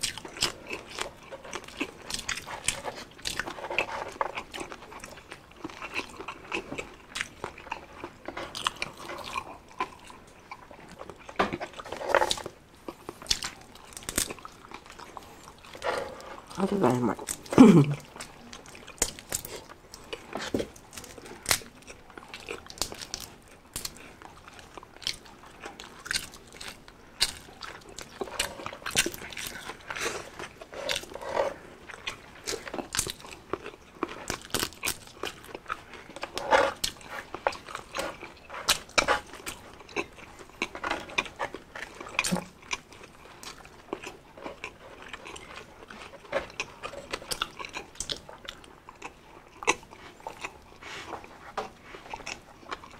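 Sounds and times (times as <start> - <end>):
people chewing crunchy food: 0.0 - 52.9.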